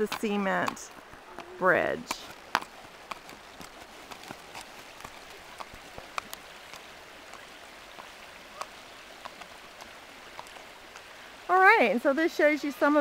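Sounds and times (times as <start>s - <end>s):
horse hooves on cement: 0.0s - 11.1s
flowing water: 0.0s - 13.0s.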